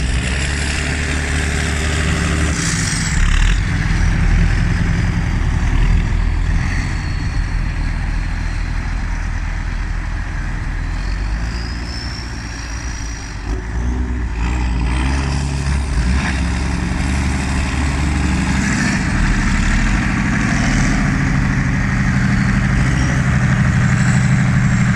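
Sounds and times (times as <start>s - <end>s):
tractor diesel engines under load: 0.0s - 24.9s.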